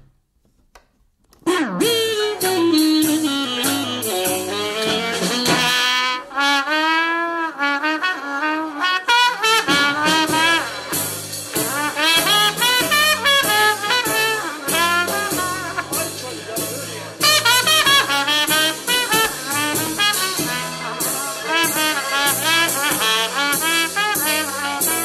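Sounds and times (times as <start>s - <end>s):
brass jazz music from boombox: 1.4s - 25.0s.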